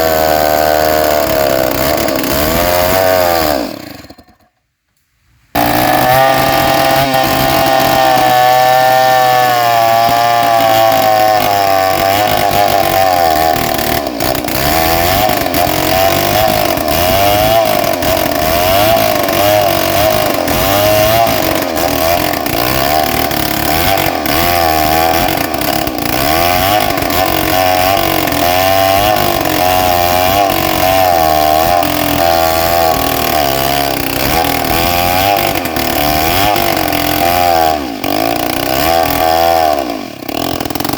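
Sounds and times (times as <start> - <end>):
chainsaw cutting log: 0.0 - 4.6, 5.6 - 40.9.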